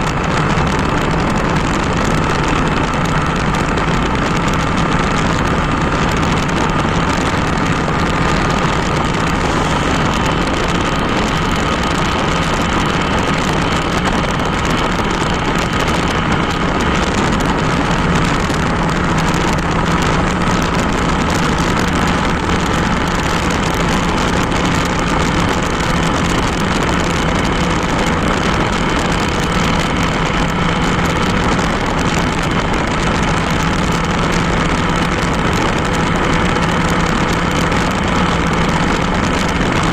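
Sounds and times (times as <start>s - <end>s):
motorcycle engine running steadily: 0.0s - 39.9s
road noise: 0.0s - 39.9s.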